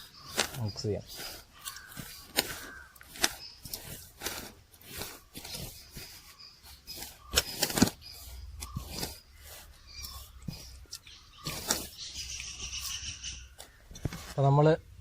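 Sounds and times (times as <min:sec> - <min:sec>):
hands mixing dry coating in bowl: 0:00.0 - 0:12.9.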